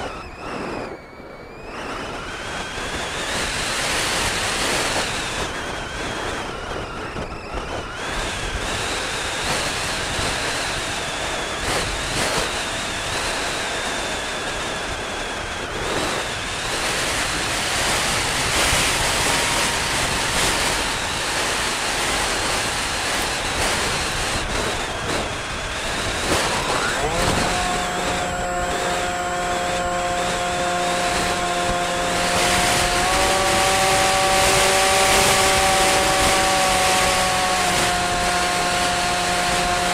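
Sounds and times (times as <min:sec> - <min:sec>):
aircraft motor whine: 0:00.0 - 0:39.9
wind rushing over microphone: 0:00.0 - 0:39.9.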